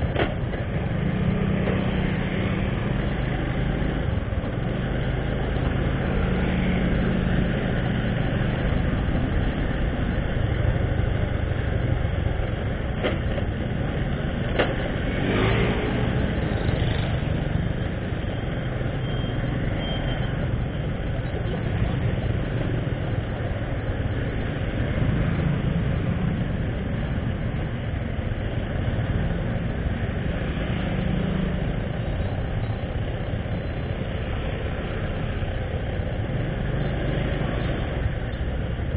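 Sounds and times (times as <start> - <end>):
other motorbikes and cars: 0.0 - 38.9.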